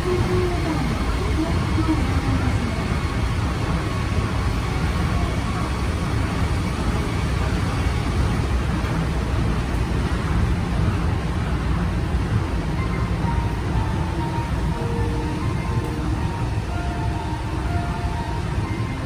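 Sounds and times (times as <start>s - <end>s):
monorail car running rumble: 0.0s - 19.0s.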